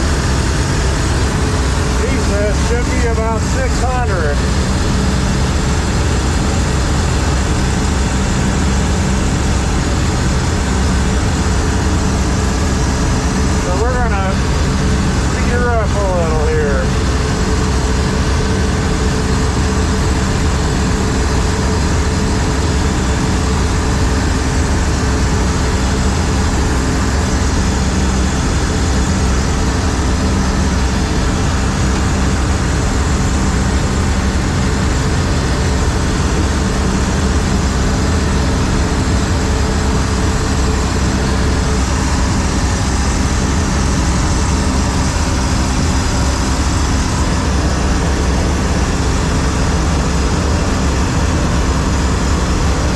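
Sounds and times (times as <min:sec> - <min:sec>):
combine harvester drone: 0:00.0 - 0:52.9.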